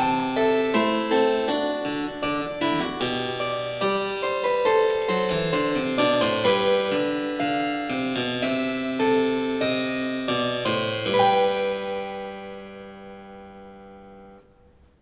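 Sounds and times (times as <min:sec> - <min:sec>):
music chords: 0:00.0 - 0:14.6.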